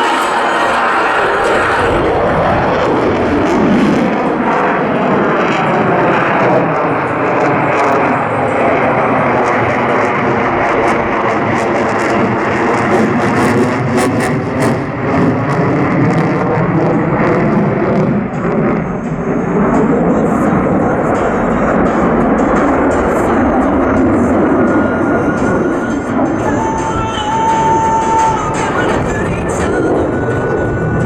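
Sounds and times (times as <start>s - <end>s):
jet engine noise: 0.0s - 31.0s.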